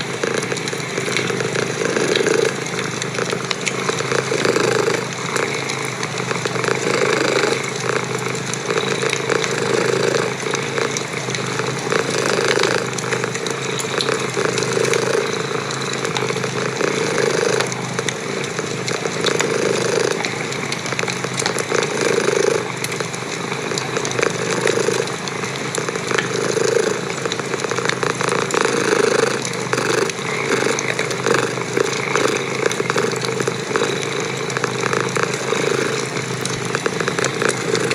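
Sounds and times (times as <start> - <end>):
cat purring: 0.0 - 37.9
wood fire crackling: 0.0 - 37.9.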